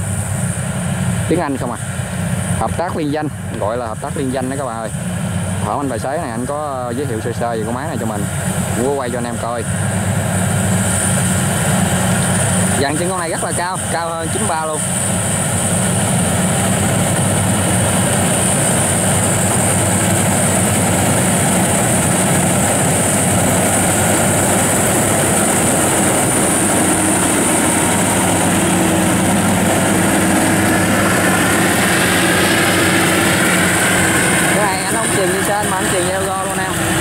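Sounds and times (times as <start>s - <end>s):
combine harvester engine drone: 0.0s - 37.0s
high mechanical whine: 0.0s - 37.0s.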